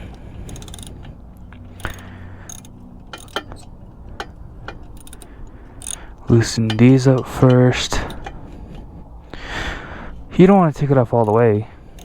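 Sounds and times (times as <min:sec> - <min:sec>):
ratchet wrench clicking: 0:00.0 - 0:08.8, 0:11.0 - 0:12.0
sharp metal clicks: 0:00.0 - 0:12.0.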